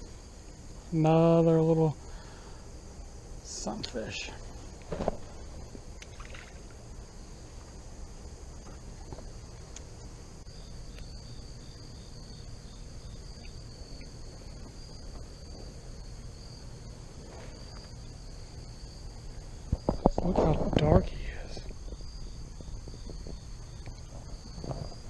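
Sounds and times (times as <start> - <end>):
insect short chirps: 0.0 - 25.0
insects chorus high-pitched: 0.0 - 25.0.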